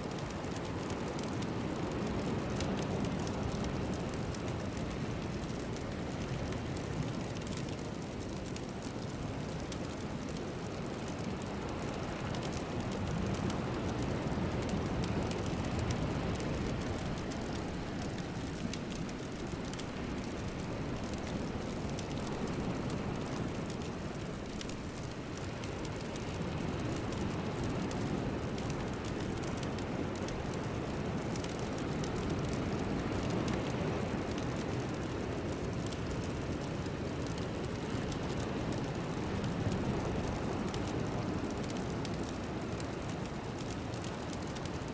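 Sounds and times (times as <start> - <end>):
faint crackles: 0.1 - 44.9.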